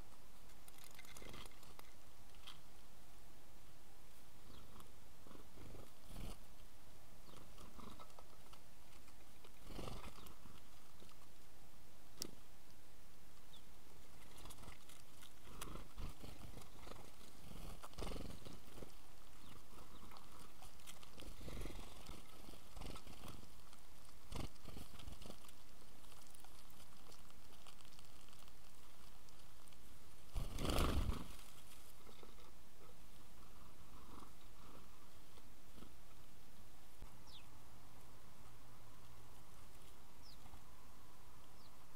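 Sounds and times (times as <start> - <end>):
birds pecking and rustling: 0.0 - 41.9.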